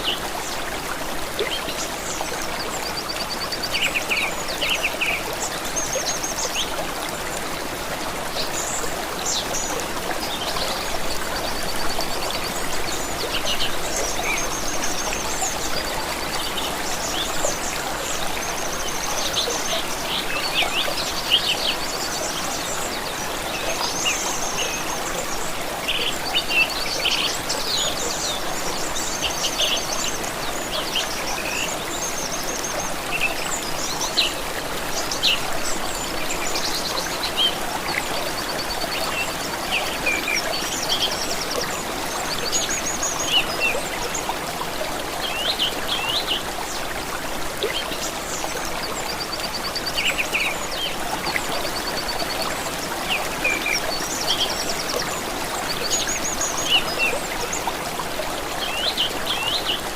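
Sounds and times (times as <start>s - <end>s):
flowing stream: 0.0s - 59.9s.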